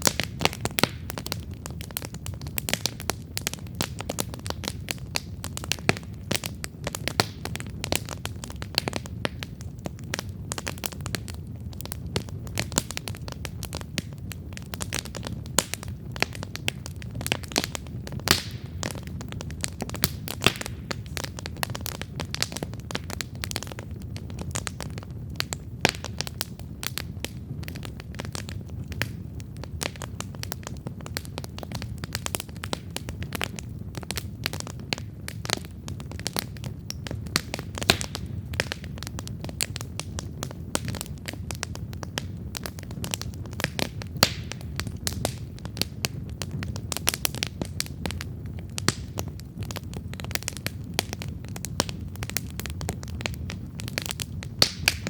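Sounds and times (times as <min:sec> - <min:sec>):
campfire crackling and popping: 0:00.0 - 0:55.0
low rumble of burning fire: 0:00.0 - 0:55.0.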